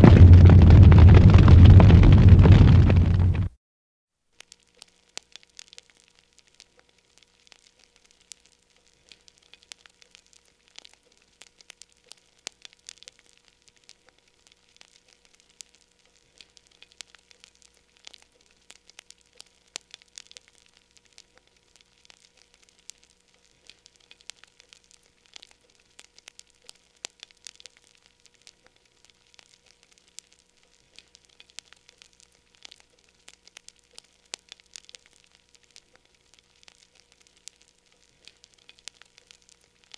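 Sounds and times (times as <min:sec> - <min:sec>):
wood fire crackling and popping: 0:00.0 - 0:03.5, 0:05.2 - 0:39.9.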